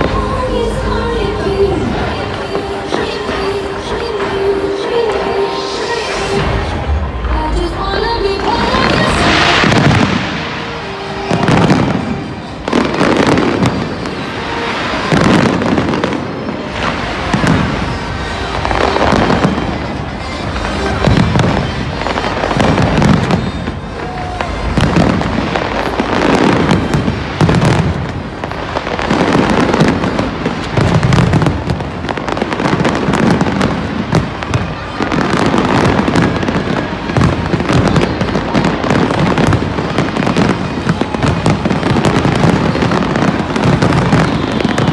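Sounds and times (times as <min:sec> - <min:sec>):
fireworks booms and crackle: 0:00.0 - 0:44.9.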